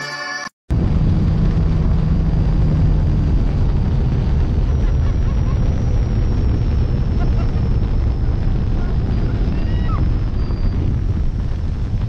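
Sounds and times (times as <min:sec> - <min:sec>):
outboard motor drone: 0:00.7 - 0:12.0
wind buffeting microphone: 0:00.7 - 0:12.0.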